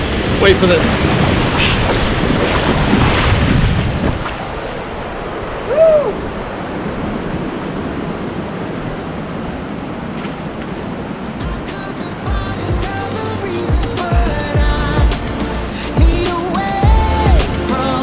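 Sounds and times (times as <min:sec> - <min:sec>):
wind on microphone: 0:00.0 - 0:17.0
waterfall rushing: 0:00.0 - 0:18.0.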